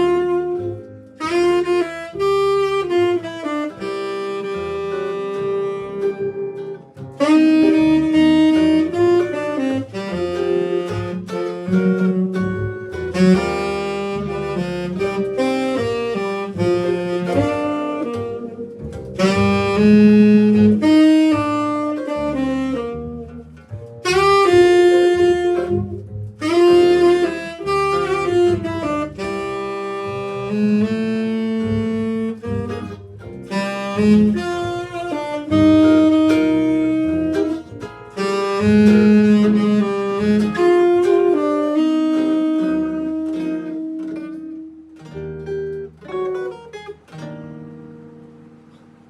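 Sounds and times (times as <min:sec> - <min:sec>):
jazz band playing: 0:00.0 - 0:49.0.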